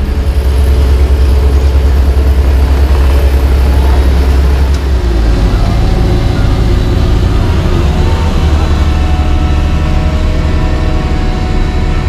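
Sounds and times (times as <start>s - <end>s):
heavy diesel engines rumbling: 0.0s - 12.0s.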